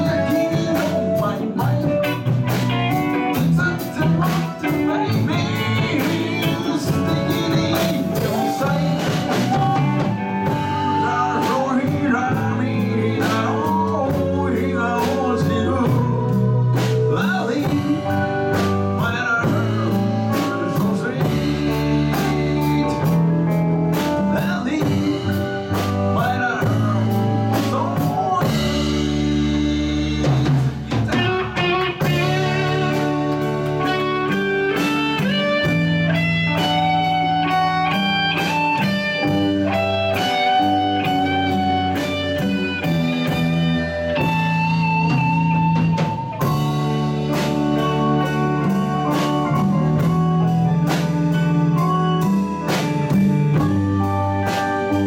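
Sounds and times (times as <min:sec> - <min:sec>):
live band playing: 0:00.0 - 0:55.0
melodic lead line: 0:00.0 - 0:55.0
sung vocals: 0:00.0 - 0:55.0.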